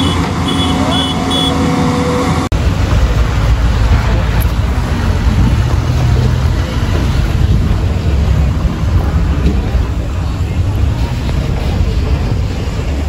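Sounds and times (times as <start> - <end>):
wind buffeting microphone: 2.5 - 13.0.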